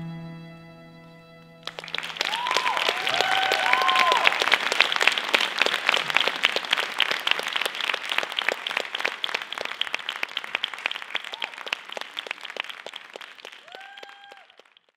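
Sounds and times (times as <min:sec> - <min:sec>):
audience applauding: 0:01.6 - 0:14.9.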